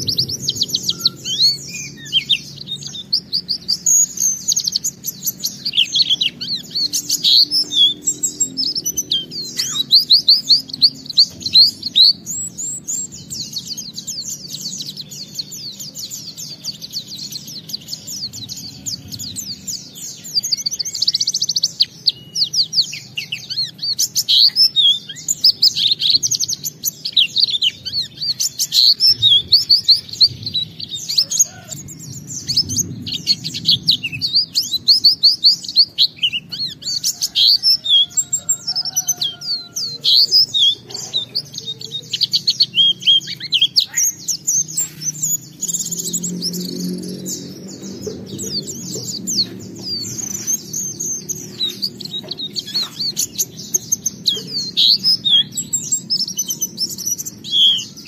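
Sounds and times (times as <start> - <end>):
small bird singing rapid chirps: 0.0 - 58.0.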